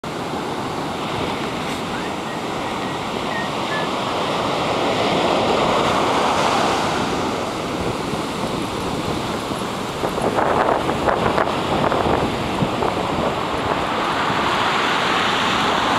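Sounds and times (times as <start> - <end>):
ocean surf breaking: 0.0 - 15.9
wind buffeting microphone: 0.1 - 15.9.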